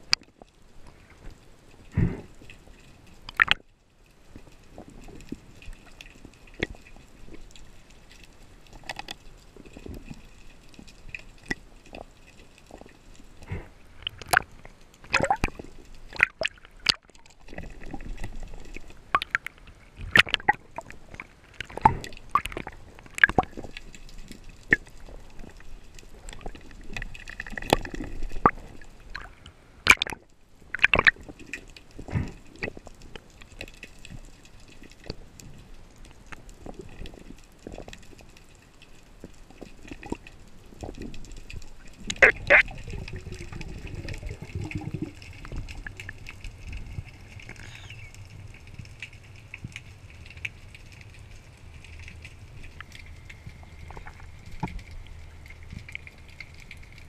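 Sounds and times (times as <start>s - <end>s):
muffled underwater clicks and knocks: 0.0s - 3.7s, 4.3s - 57.0s
faint water gurgling: 0.0s - 57.0s.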